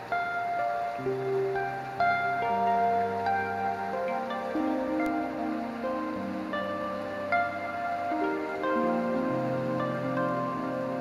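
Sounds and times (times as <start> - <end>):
slow ringing instrumental notes: 0.0 - 11.0.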